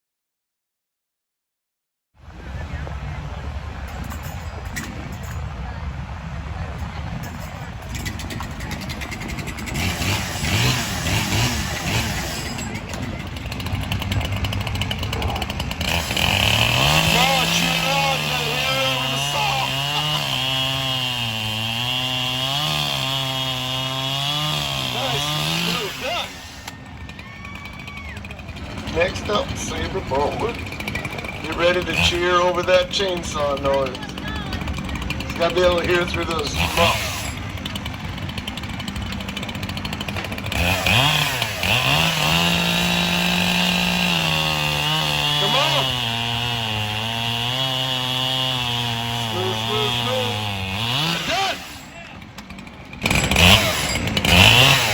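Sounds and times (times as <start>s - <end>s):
chainsaw cutting through log: 7.8s - 54.9s.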